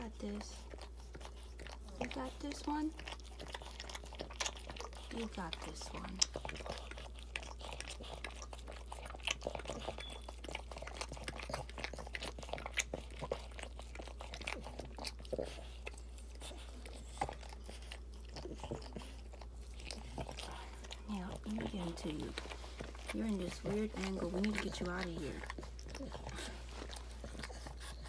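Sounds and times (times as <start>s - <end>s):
dog licking wet smacking: 0.0s - 28.0s.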